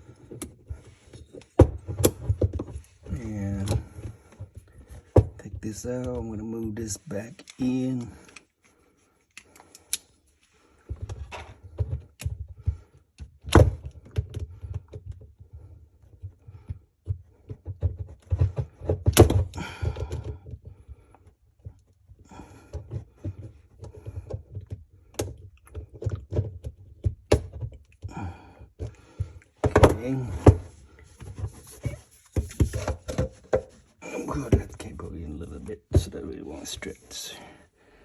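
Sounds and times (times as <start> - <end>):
parts knocking and clunking: 0.0 - 8.5, 10.8 - 36.9.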